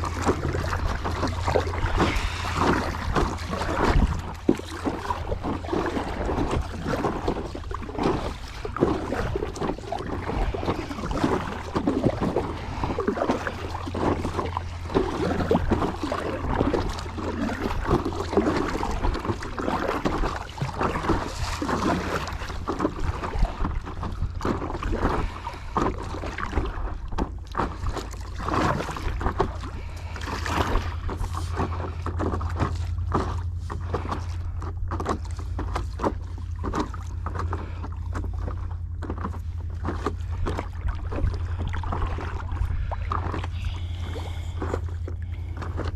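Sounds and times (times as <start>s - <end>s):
wind rumbling on microphone: 0.0s - 37.4s
paddle strokes splashing: 0.0s - 45.9s
water sloshing: 0.0s - 45.9s.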